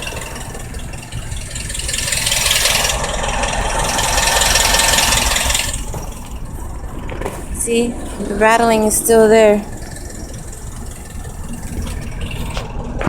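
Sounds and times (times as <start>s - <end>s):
diesel car engine running: 0.0s - 13.0s
engine rattle: 0.0s - 13.0s
road noise: 0.0s - 13.0s.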